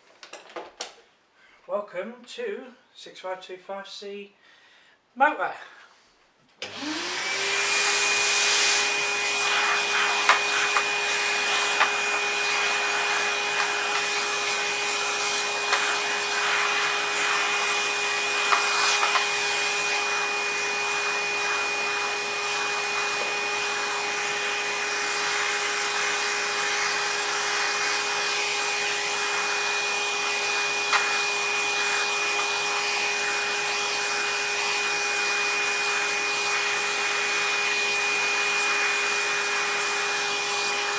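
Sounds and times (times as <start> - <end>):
vacuum cleaner running: 6.6 - 40.9.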